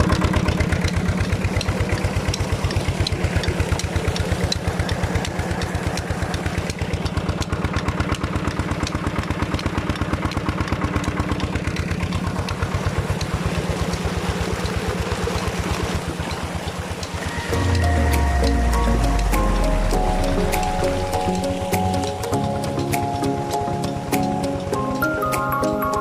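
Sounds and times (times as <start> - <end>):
diesel engine chugging: 0.0 - 26.0.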